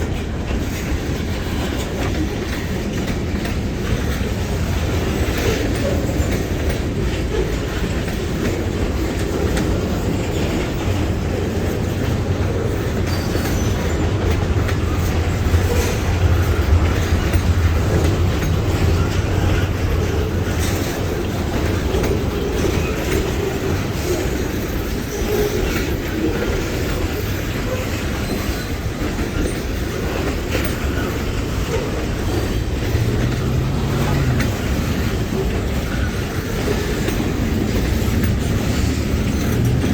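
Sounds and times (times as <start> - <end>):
train rumble: 0.0 - 39.9
train wheels clacking over rail joints: 0.0 - 39.9.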